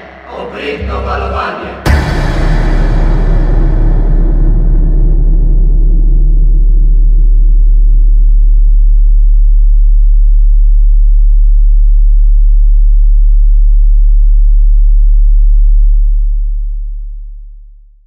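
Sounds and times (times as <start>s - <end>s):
deep bass drone: 0.0s - 17.9s.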